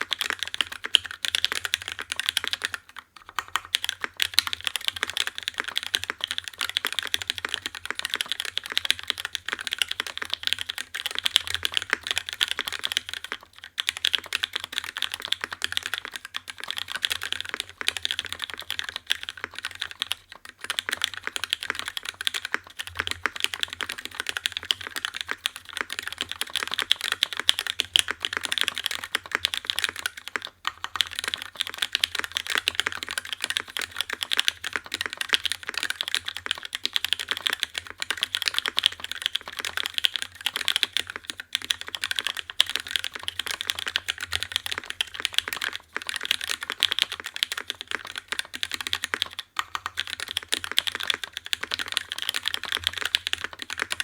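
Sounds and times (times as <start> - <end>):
fast typing on mechanical keyboard: 0.0 - 54.0.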